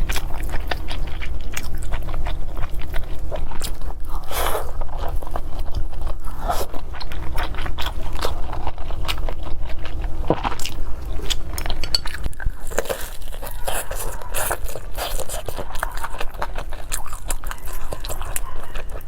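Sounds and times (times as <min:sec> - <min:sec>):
person biting and chewing food: 0:00.0 - 0:19.0.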